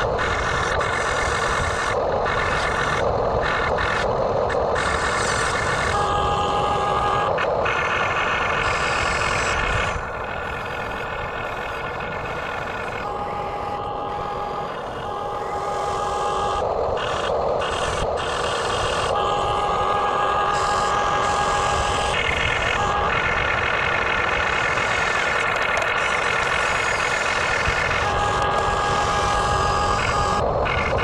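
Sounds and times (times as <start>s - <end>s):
electric motors whirring: 0.0s - 31.0s
high motor whine: 0.0s - 31.0s.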